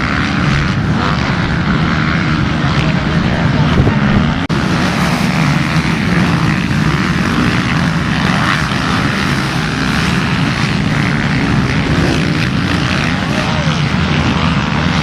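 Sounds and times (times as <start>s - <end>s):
motocross bikes racing past: 0.0s - 15.0s.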